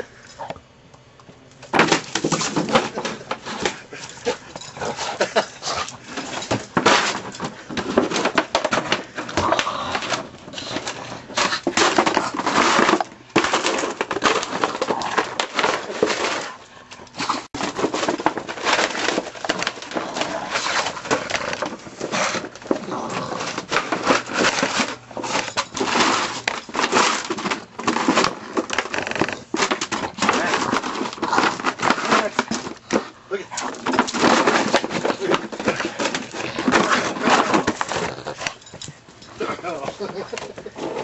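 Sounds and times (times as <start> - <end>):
plastic jug crunching and scraping: 1.6 - 41.0.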